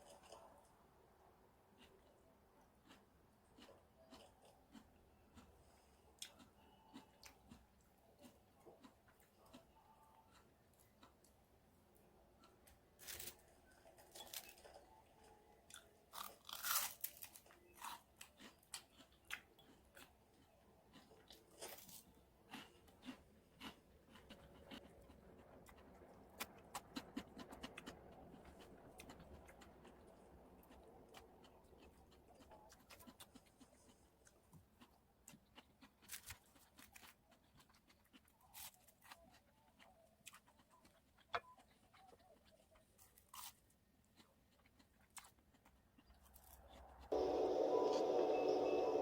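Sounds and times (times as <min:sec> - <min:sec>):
crunchy chewing: 0:00.0 - 0:00.7, 0:01.7 - 0:11.4, 0:12.3 - 0:47.1.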